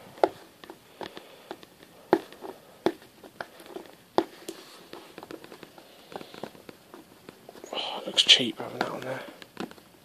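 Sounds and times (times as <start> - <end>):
hands tapping and rubbing a shoe: 0.0 - 10.0.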